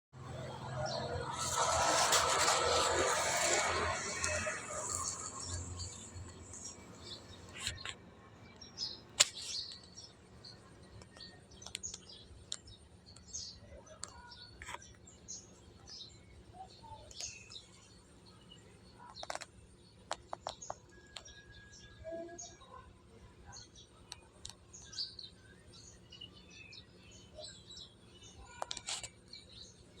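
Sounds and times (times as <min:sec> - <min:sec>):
small birds chirping: 0:00.8 - 0:30.0.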